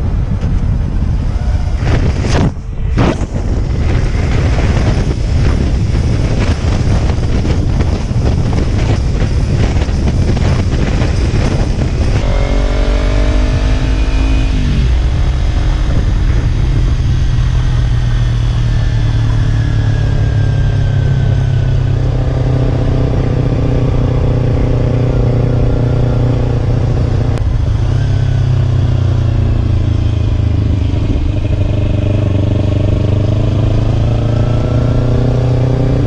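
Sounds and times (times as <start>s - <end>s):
motorcycle engine running: 0.0s - 36.0s
wind rush on microphone: 0.0s - 36.0s.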